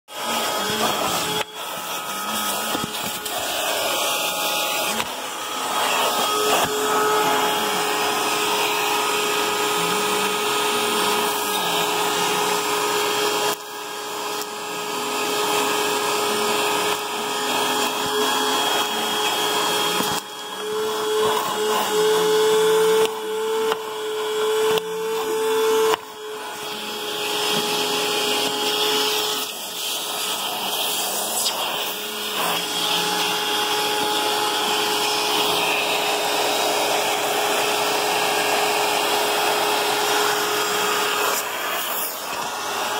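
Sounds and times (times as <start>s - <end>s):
vacuum cleaner running: 0.1s - 42.9s.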